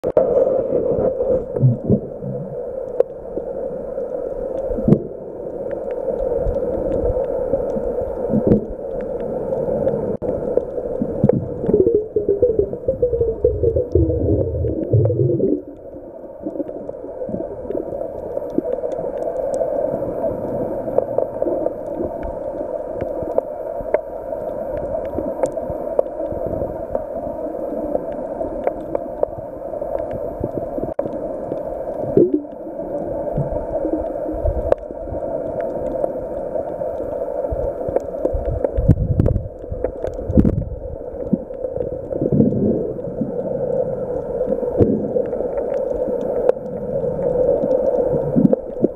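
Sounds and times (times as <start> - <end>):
underwater gurgles: 0.0 - 48.9
underwater rush of water: 0.0 - 48.9.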